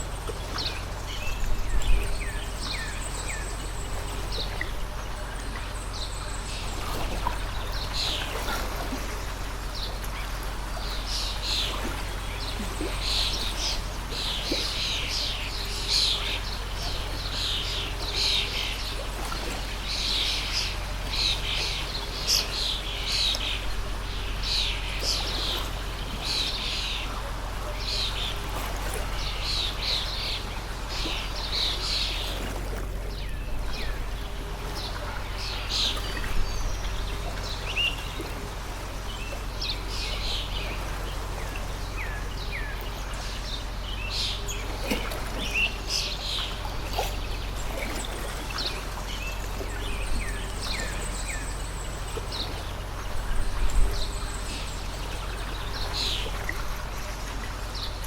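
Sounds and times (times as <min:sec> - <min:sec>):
flowing stream: 0:00.0 - 0:58.0
small birds chirping: 0:00.0 - 0:58.0.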